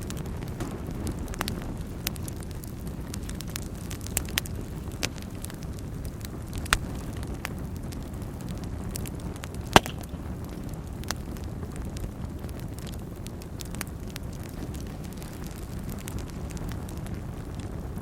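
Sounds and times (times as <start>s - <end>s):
fire crackles and pops: 0.0s - 18.0s
fire rumbling in fireplace: 0.0s - 18.0s.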